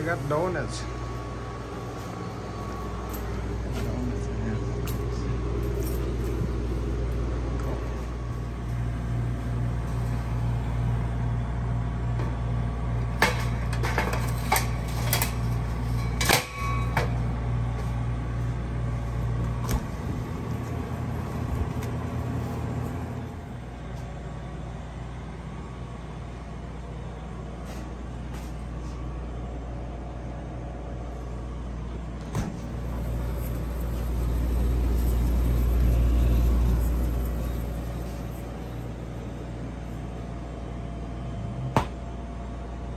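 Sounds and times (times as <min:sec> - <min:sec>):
refrigeration machinery humming: 0:00.0 - 0:42.9.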